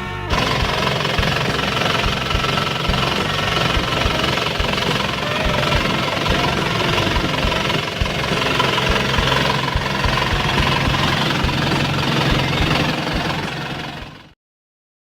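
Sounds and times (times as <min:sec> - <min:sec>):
diesel engine running with knock: 0:00.3 - 0:14.4.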